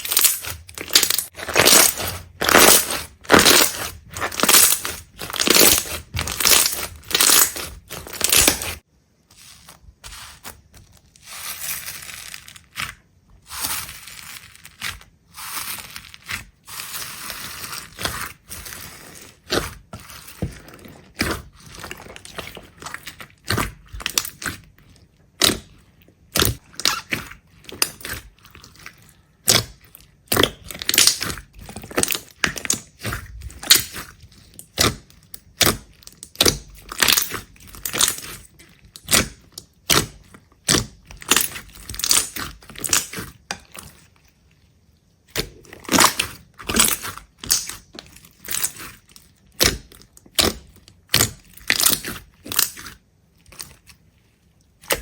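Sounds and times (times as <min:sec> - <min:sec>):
brittle crunching and cracking: 0:00.0 - 0:44.4, 0:45.2 - 0:54.1, 0:54.7 - 0:55.0.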